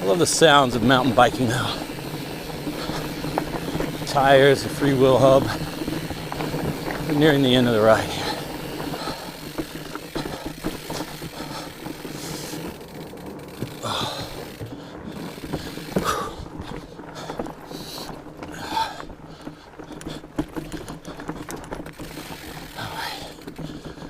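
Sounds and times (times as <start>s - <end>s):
bike clicks and knocks: 0.0s - 24.0s
bike tires rumbling on dirt: 0.0s - 24.0s
heavy breathing: 1.5s - 12.8s, 13.6s - 24.0s.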